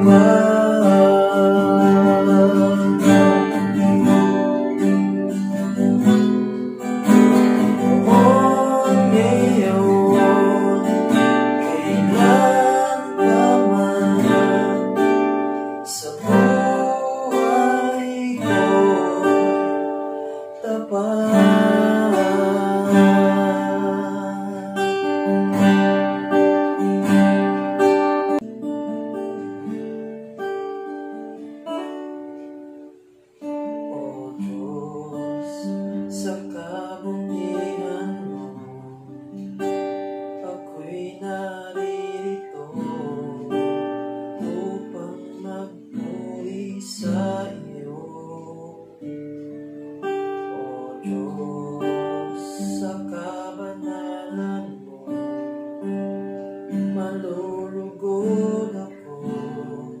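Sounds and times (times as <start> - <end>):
man singing: 0.0 - 6.3, 7.0 - 27.6, 33.6 - 60.0
acoustic guitar: 0.0 - 60.0.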